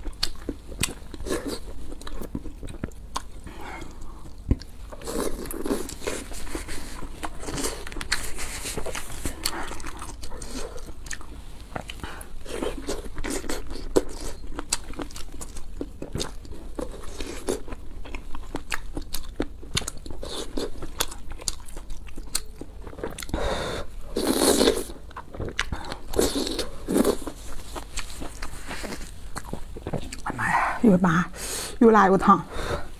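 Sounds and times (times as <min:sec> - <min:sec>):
wet chewing: 0:00.0 - 0:23.4, 0:24.0 - 0:30.5.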